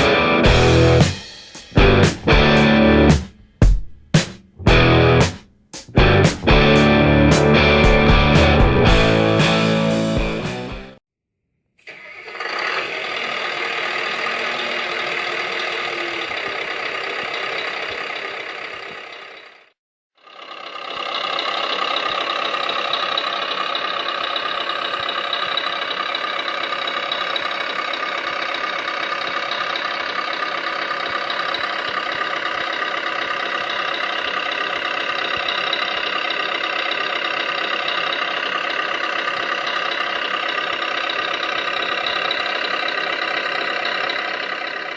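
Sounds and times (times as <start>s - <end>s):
electronic diesel engine sound: 0.0s - 3.2s, 6.0s - 11.0s, 11.9s - 44.9s.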